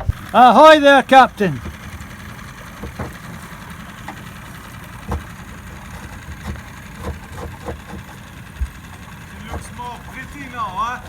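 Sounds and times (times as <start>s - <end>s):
motor humming: 0.0s - 11.0s
light knocks: 1.6s - 11.0s.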